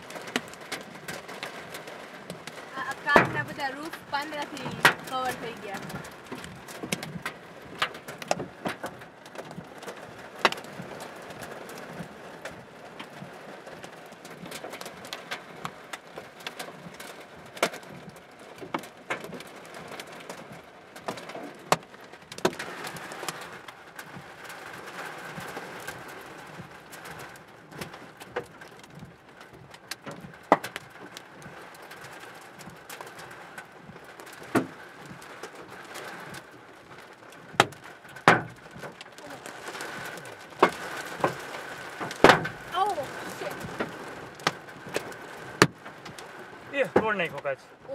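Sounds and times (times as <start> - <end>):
hailstones striking car roof: 0.0 - 47.9
rain-like hiss: 0.0 - 47.9.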